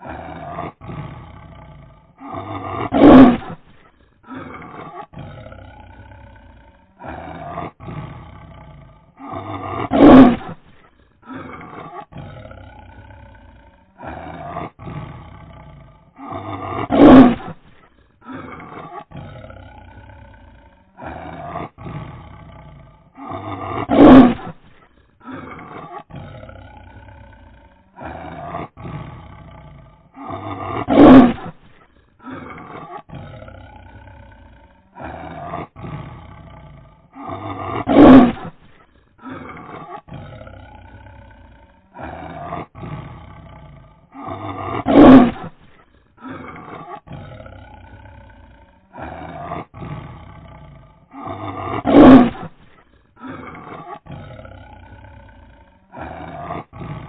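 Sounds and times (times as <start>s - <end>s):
tiger roaring: 0.0s - 57.0s.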